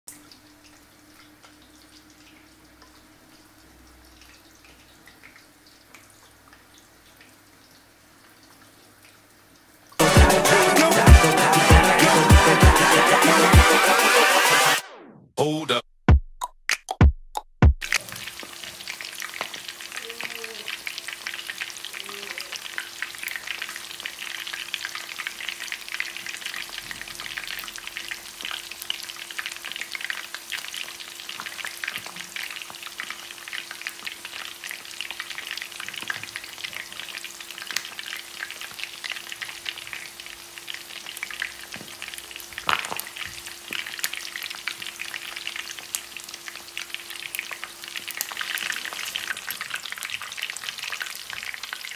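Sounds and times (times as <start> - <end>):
meat deep-frying in oil: 0.1 - 10.6, 17.8 - 51.9.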